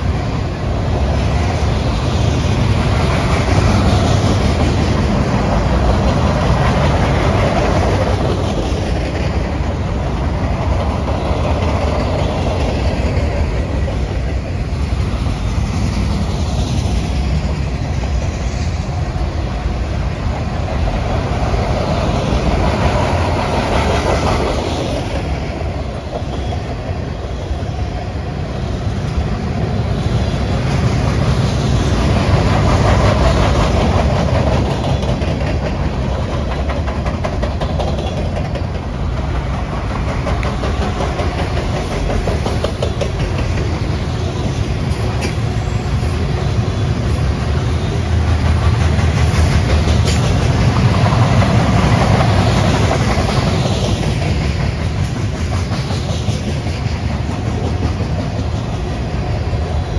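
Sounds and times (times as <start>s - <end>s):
freight train wheels rumbling: 0.0s - 59.9s
wheels clicking over rail joints: 0.0s - 59.9s.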